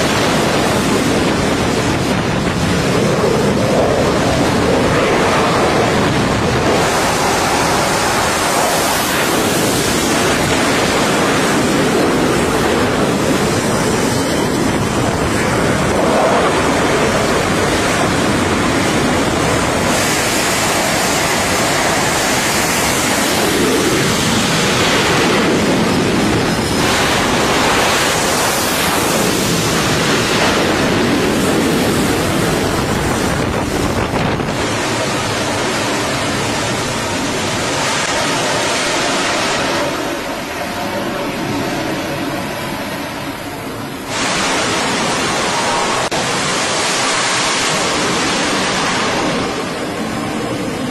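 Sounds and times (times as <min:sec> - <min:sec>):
catapult steam hissing: 0:00.0 - 0:50.9
jet engines roaring: 0:00.0 - 0:50.9
wind on microphone: 0:00.0 - 0:50.9.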